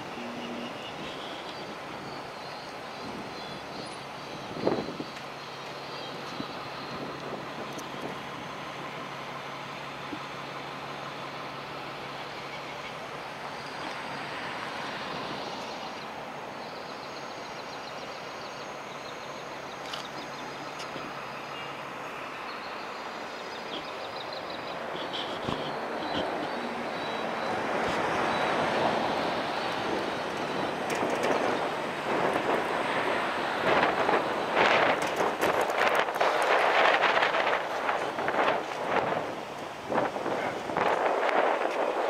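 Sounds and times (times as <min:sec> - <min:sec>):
city street traffic: 0:00.0 - 0:42.0
low engine hum: 0:00.0 - 0:42.0.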